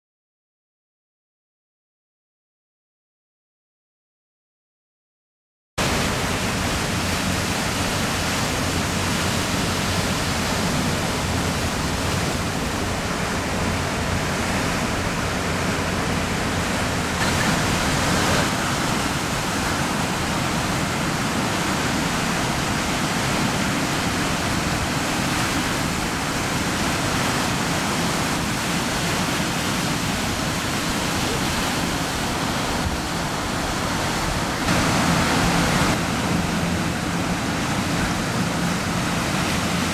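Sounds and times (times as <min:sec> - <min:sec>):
ocean surf breaking: 0:05.8 - 0:39.9.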